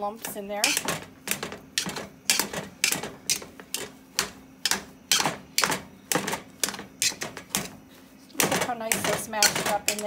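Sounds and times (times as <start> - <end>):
potato masher clacking in metal pot: 0.2 - 7.7, 8.4 - 10.0.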